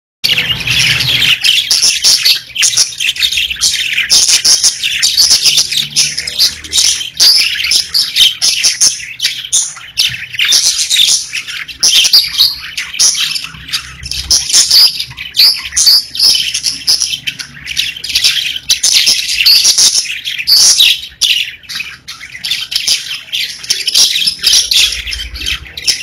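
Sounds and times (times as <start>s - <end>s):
budgerigars chirping: 0.2s - 26.0s.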